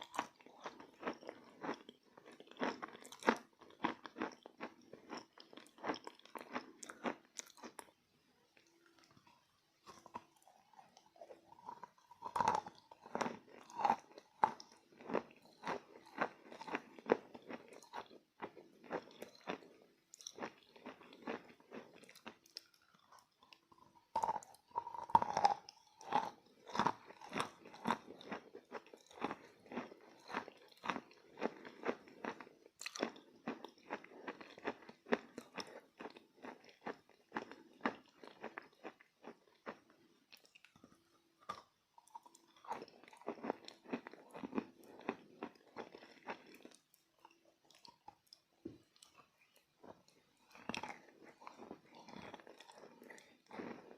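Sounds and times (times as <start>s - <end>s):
chewing crunches: 0.0s - 8.0s, 8.6s - 53.9s.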